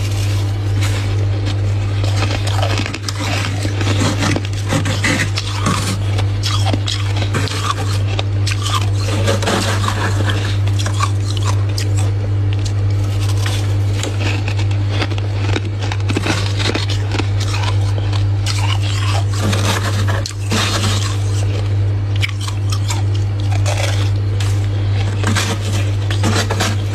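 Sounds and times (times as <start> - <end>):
frost being chewed: 0.0 - 26.9
steady low hum: 0.0 - 26.9.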